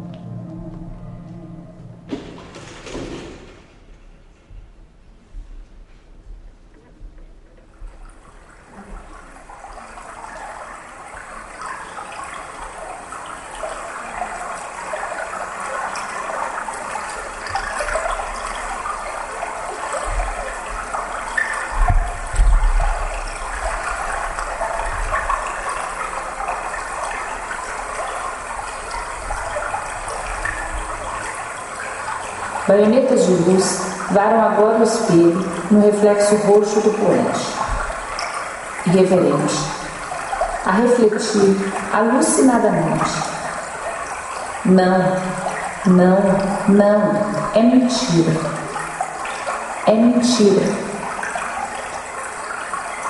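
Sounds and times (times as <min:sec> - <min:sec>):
rushing water-like noise: 0:07.7 - 0:53.0.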